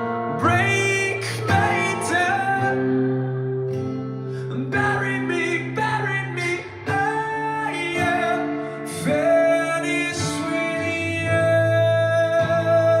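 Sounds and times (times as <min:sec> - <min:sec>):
guitar: 0:00.0 - 0:13.0
person singing: 0:00.0 - 0:13.0.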